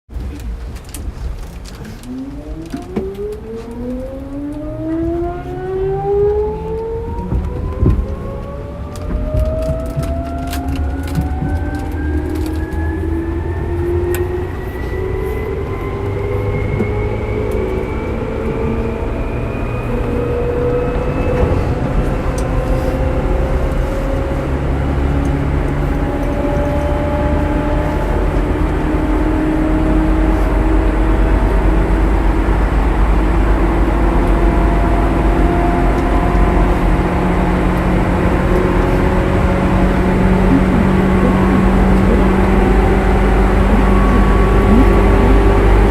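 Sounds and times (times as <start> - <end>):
train rumble: 0.1 - 45.9
electric train motors whining: 2.0 - 45.9.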